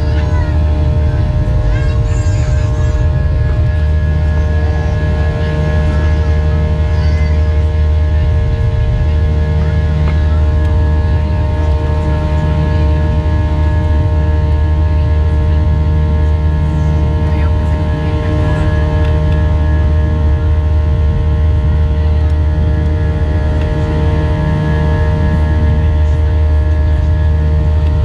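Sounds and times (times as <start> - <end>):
jet engine cabin drone: 0.0 - 28.0
steady buzzing tones: 0.0 - 28.0.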